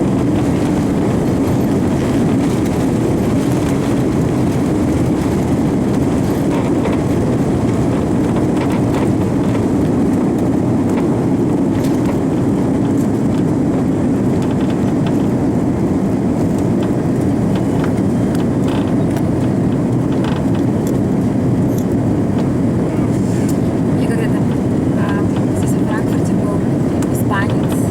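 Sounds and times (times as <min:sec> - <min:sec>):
airliner cabin engine roar: 0:00.0 - 0:27.9.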